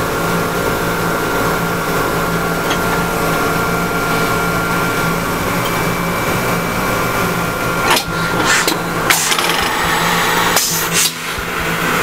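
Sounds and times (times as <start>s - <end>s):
high whine: 0.0s - 12.0s
motor drone: 1.1s - 12.0s.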